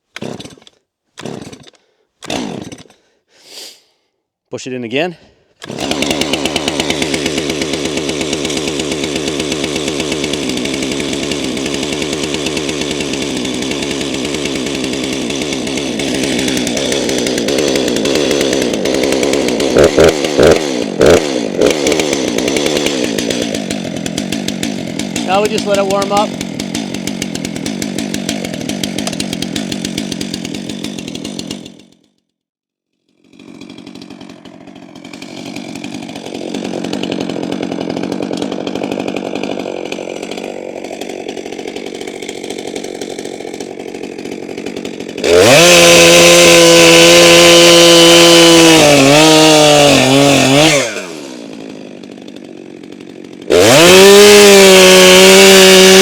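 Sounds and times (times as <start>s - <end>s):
chainsaw idling: 0.0s - 3.3s, 4.9s - 32.2s, 33.1s - 56.0s
chainsaw cutting through log: 0.0s - 4.0s, 4.9s - 56.0s.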